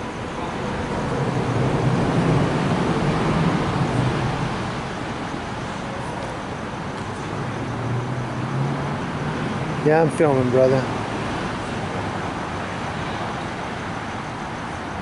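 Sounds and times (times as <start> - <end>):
car passing on wet road: 0.6 - 5.4, 7.4 - 14.7.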